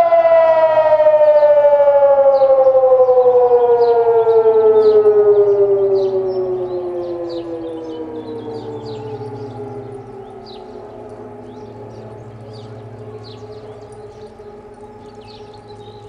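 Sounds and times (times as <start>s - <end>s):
siren sliding lower in pitch: 0.0s - 16.0s.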